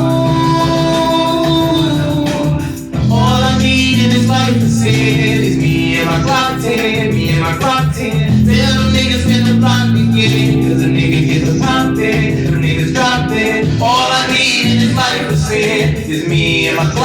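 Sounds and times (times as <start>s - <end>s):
bass-heavy hip-hop beat: 0.0s - 17.0s
person singing: 0.0s - 17.0s.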